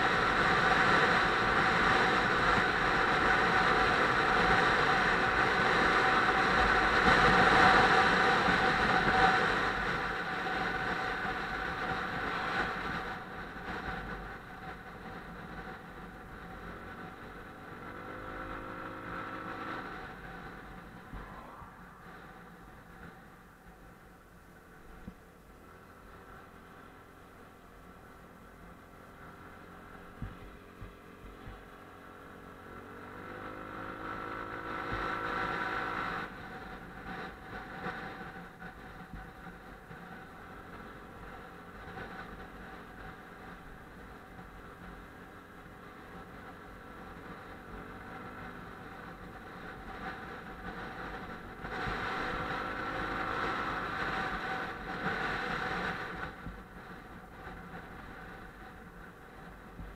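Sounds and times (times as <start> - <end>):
motorcycle engine revving: 0.0 - 23.4, 27.8 - 59.9
wind and road noise: 0.0 - 59.9.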